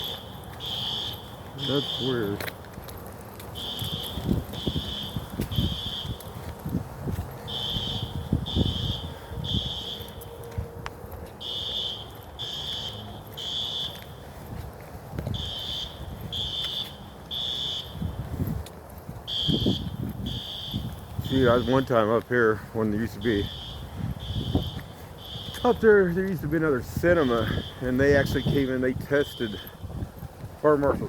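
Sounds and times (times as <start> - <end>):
fire alarm beeping: 0.0 - 2.5, 3.4 - 6.6, 7.4 - 14.5, 15.3 - 18.4, 19.3 - 30.1.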